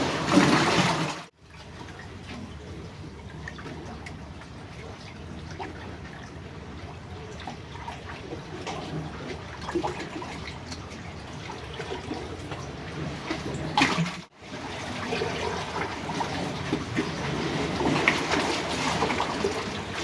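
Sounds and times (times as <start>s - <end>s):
seawater sloshing among rocks: 0.0s - 20.0s
water splashes: 0.0s - 20.0s.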